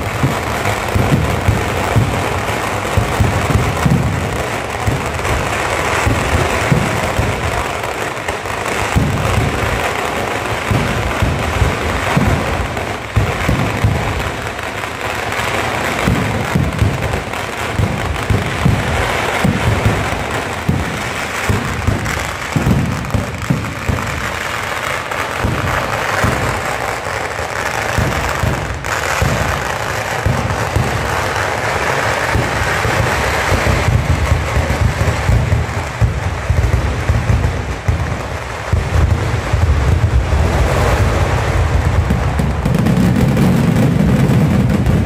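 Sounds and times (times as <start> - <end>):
fireworks barrage: 0.0 - 45.0.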